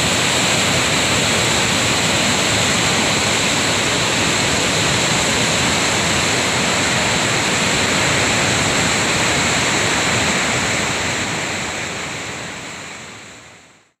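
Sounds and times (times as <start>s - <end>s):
river rushing: 0.0s - 13.8s.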